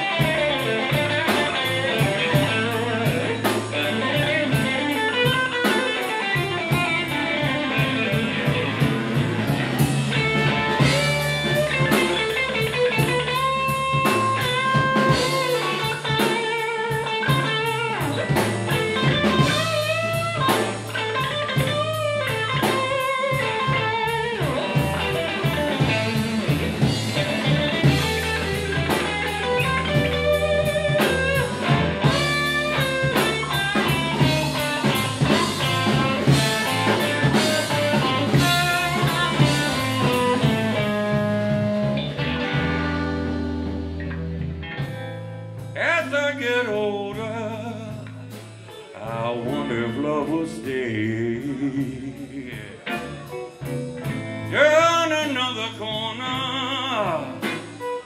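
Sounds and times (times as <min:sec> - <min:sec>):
bass and drums: 0:00.0 - 0:58.0
electric guitar: 0:00.0 - 0:58.0.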